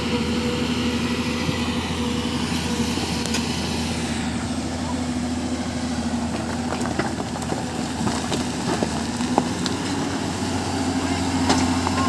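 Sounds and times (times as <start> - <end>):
construction machine engine running: 0.0 - 12.0.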